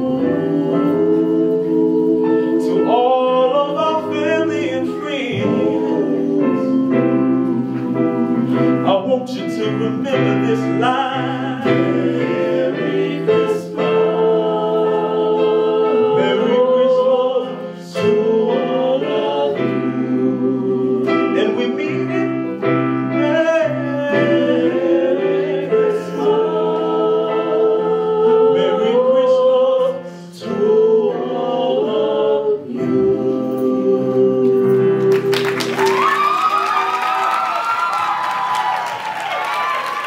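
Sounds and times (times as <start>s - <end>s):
vocal group singing in harmony: 0.0s - 40.0s.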